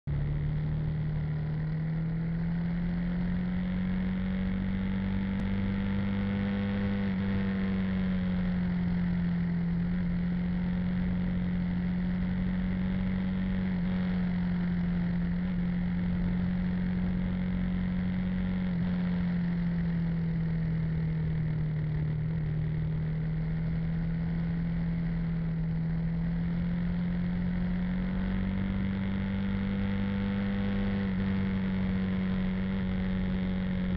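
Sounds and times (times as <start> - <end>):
motorbike engine running: 0.1 - 33.9.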